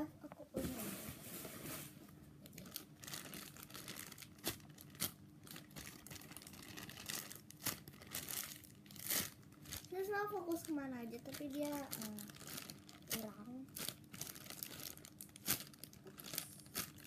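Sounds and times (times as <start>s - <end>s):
plastic bag crinkling: 0.6s - 17.0s.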